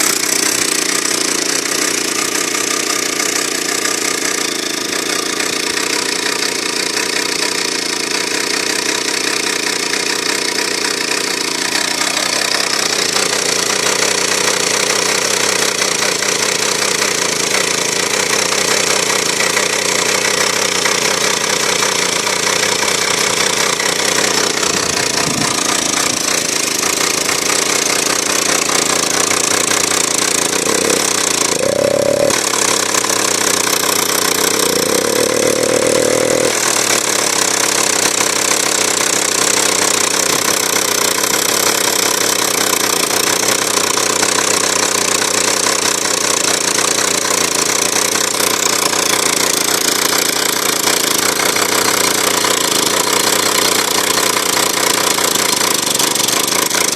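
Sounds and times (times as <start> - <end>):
chainsaw engine running: 0.0 - 56.9.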